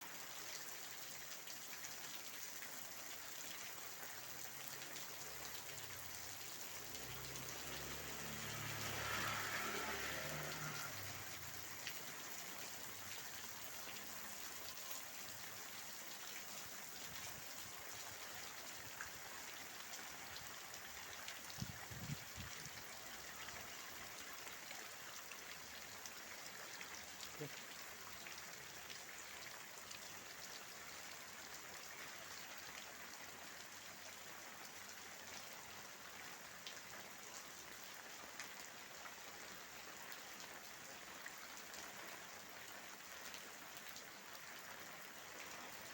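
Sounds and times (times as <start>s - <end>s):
rain pattering: 0.0s - 45.9s.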